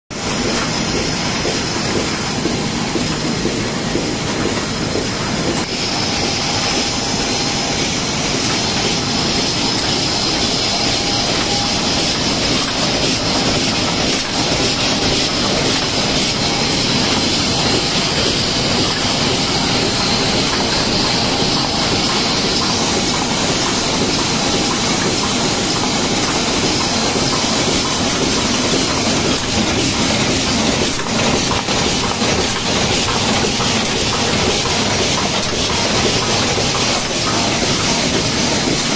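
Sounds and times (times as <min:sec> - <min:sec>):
die cutting machine clatter: 0:00.2 - 0:38.9
machine hiss: 0:05.4 - 0:38.9.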